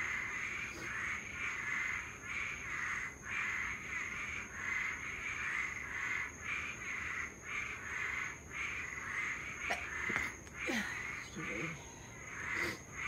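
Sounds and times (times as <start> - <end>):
insects rasping buzz: 0.0 - 13.0.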